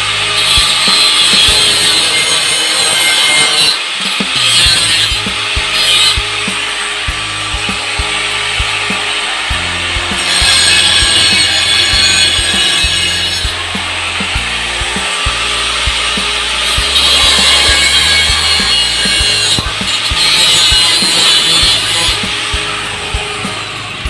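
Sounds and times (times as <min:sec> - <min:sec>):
music with steady beat and bass: 0:00.0 - 0:02.2, 0:04.0 - 0:24.0
metal scraping: 0:00.0 - 0:24.0.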